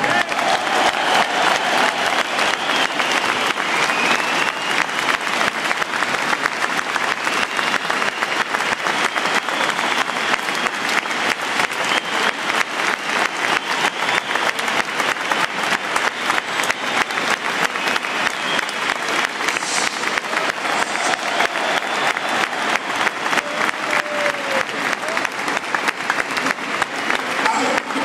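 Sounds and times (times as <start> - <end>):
stadium crowd applauding: 0.0 - 28.0.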